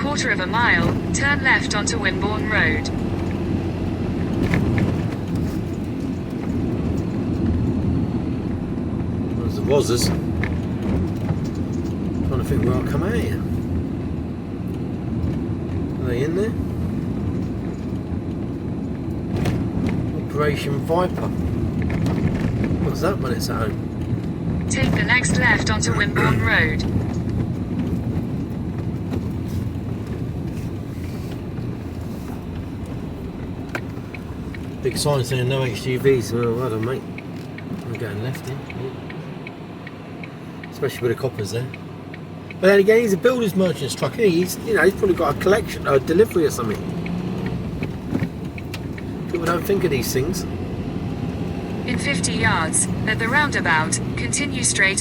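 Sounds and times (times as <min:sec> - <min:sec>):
van engine and tyre rumble: 0:00.0 - 0:55.0.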